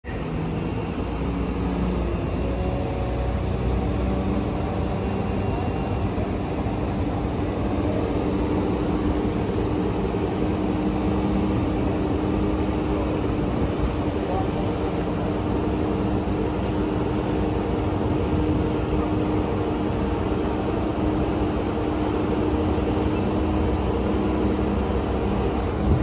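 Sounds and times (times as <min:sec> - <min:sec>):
diesel engines droning: 0:00.0 - 0:26.0.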